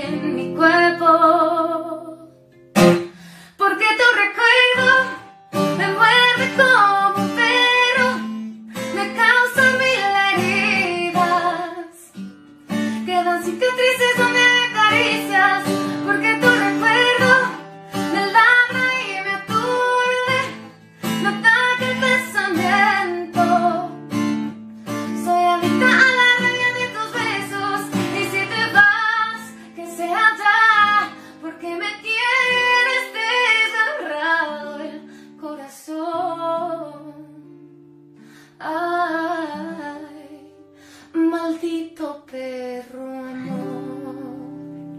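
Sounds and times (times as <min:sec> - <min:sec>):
woman singing: 0:00.0 - 0:02.4, 0:03.0 - 0:37.8, 0:38.4 - 0:44.9
acoustic guitar: 0:00.0 - 0:44.9.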